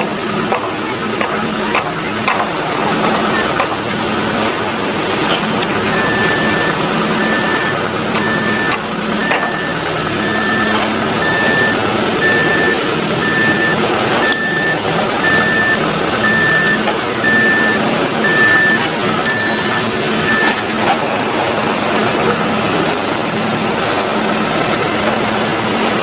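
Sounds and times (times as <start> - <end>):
reversing alarm beeping: 0.0 - 20.8
vehicle engine running: 0.0 - 26.0.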